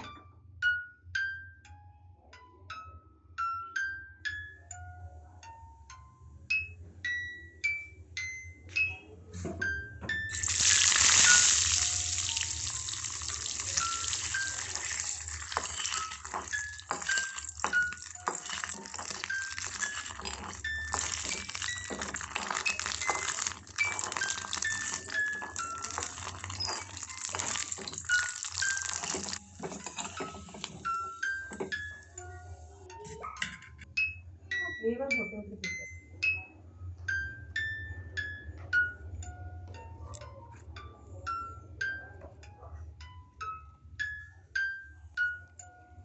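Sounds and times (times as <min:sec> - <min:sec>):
plucked bell-like music: 0:00.0 - 0:46.0.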